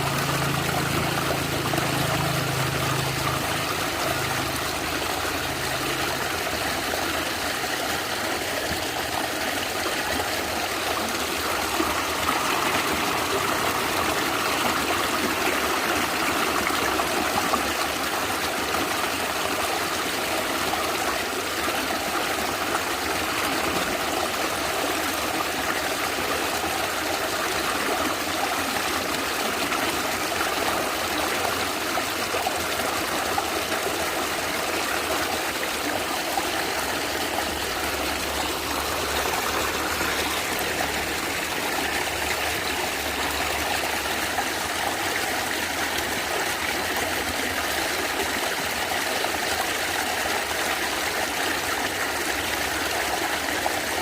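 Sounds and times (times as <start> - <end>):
stream gurgling and trickling: 0.0 - 54.0.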